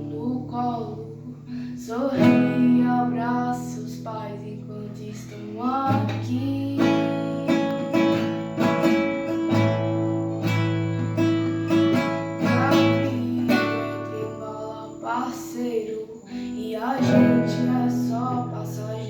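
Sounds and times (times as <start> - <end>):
person singing: 0.0 - 9.8, 11.1 - 19.0
acoustic guitar strumming chords: 0.0 - 19.0.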